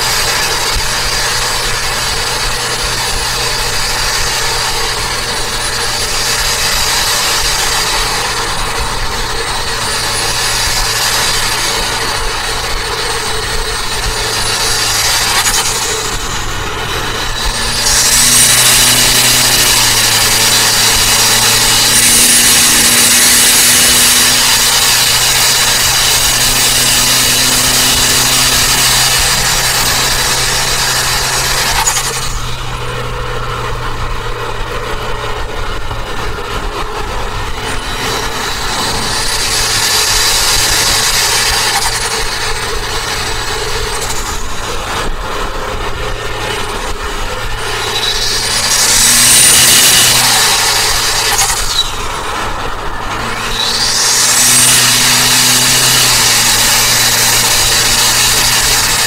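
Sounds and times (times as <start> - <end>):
car engine running: 0.0 - 59.0
road and wind noise: 0.0 - 59.0.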